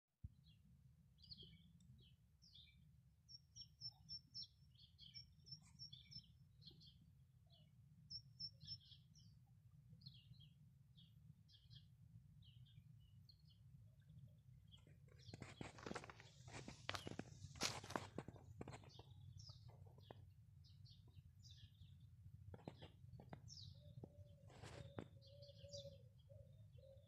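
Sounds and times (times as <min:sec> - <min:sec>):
faint small birds chirping: 0:01.2 - 0:27.0.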